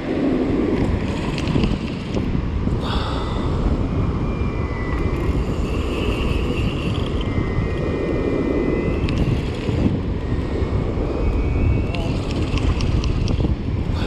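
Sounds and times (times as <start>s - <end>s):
faint high whine: 0.0s - 14.0s
wind buffeting microphone: 0.0s - 14.0s.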